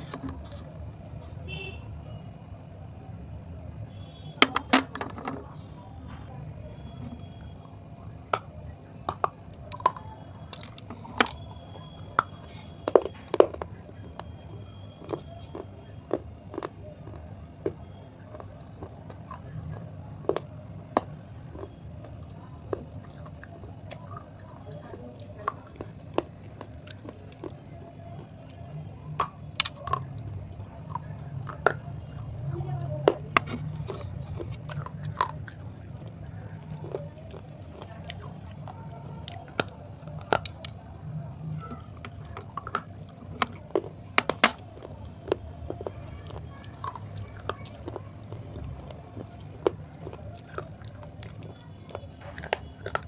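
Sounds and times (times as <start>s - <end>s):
crunching of dry clay chewed: 0.0s - 53.0s.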